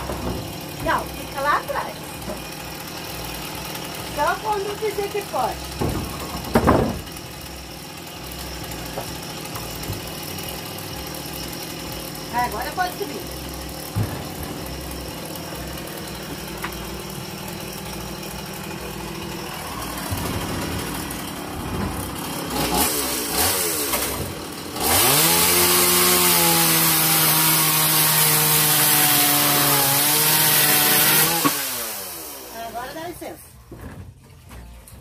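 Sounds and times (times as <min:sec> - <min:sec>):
chainsaw revving and cutting wood: 0:00.0 - 0:33.6.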